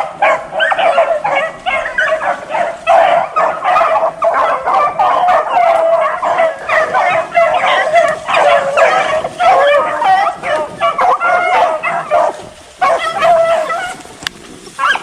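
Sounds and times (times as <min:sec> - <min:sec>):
dogs baying: 0:00.0 - 0:14.2, 0:14.8 - 0:15.0.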